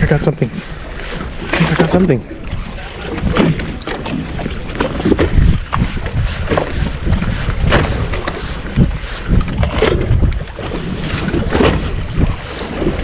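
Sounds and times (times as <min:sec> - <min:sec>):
water sloshing against boat hull: 0:00.0 - 0:13.0
wind buffeting microphone: 0:00.0 - 0:13.0.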